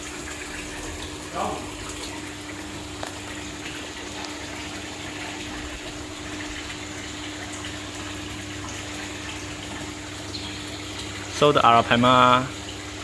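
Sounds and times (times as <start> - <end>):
low pump hum: 0.0 - 13.0
running water: 0.0 - 13.0.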